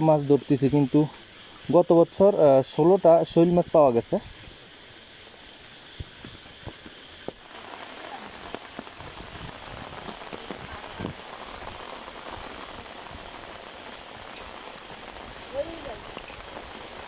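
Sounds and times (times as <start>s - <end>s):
raindrops ticking close by: 0.0s - 17.0s
steady rain: 0.0s - 17.0s.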